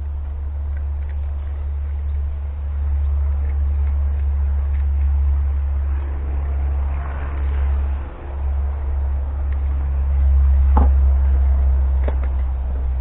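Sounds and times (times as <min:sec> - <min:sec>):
lathe running low drone: 0:00.0 - 0:13.0.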